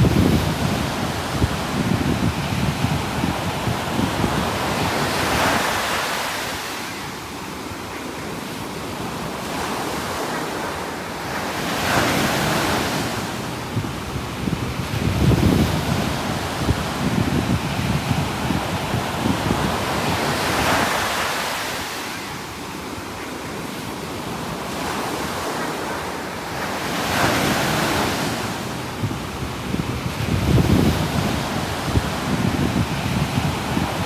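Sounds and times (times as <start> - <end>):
wind buffeting microphone: 0.0 - 7.4, 11.2 - 23.0, 23.6 - 34.0
ocean waves breaking: 0.0 - 34.0.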